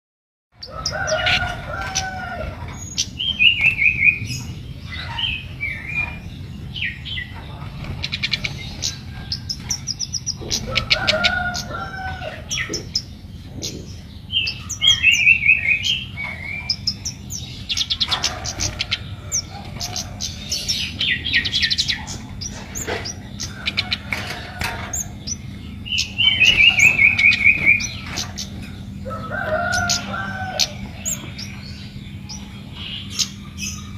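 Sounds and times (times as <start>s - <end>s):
steady low hum: 0.6s - 33.9s.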